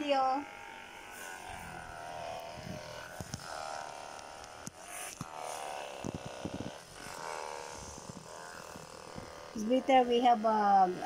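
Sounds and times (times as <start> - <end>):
electric massager motor buzzing: 0.0 - 11.0.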